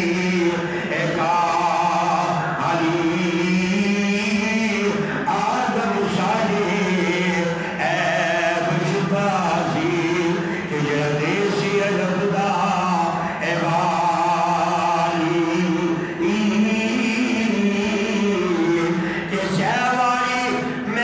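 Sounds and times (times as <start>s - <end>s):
man chanting into microphone: 0.0s - 21.0s.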